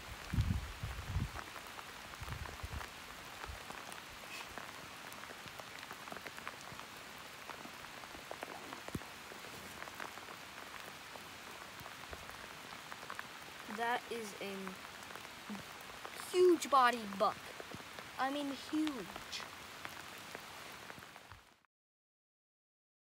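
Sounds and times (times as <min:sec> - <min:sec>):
light rain hiss: 0:00.0 - 0:21.6
raindrops ticking: 0:00.0 - 0:21.6.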